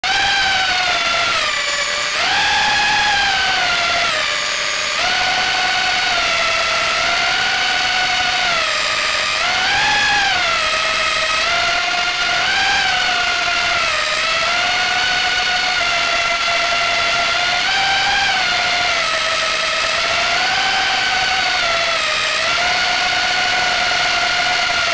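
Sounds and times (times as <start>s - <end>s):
quadcopter propellers whining: 0.0s - 24.9s.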